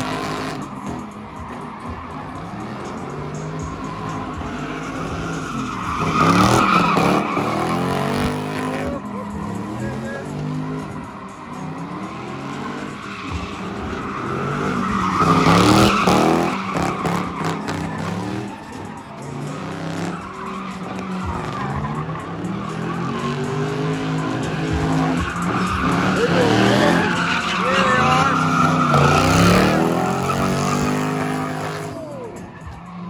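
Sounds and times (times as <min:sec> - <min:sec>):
car engine revving: 0:00.0 - 0:33.0
tires squealing: 0:00.0 - 0:33.0.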